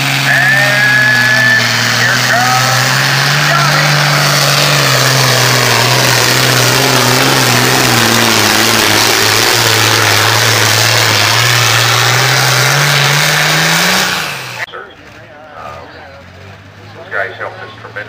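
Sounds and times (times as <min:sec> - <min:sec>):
diesel tractor engine at full power: 0:00.0 - 0:18.0.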